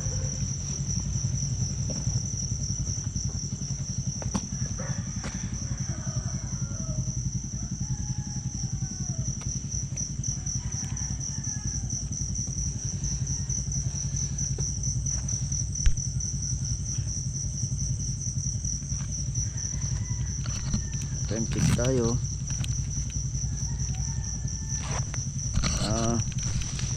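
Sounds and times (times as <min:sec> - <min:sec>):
crickets chirping: 0:00.0 - 0:26.9
low engine rumble: 0:00.0 - 0:26.9.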